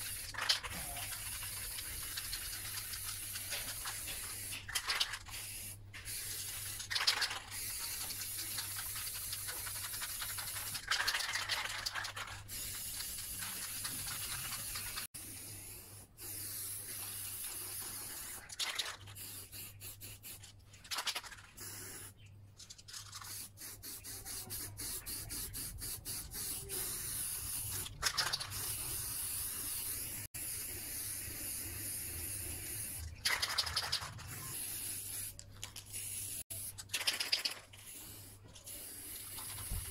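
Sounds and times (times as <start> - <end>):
spray paint can hissing: 0.0 - 22.2, 22.8 - 39.9.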